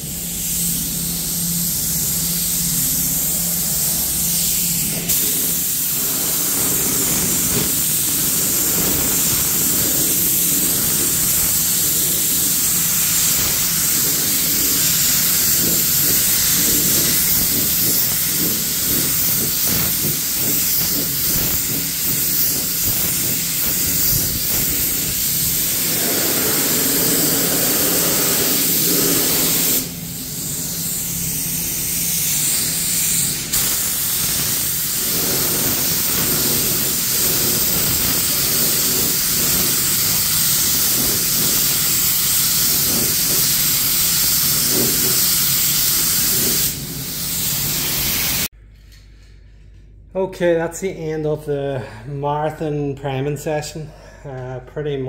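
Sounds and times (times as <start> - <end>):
spray gun hissing: 0.0 - 48.5.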